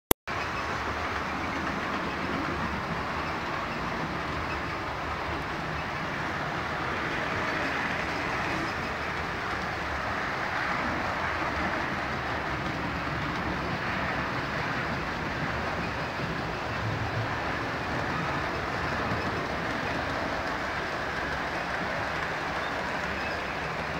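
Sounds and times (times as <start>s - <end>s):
model trains running on track: 0.3s - 23.9s.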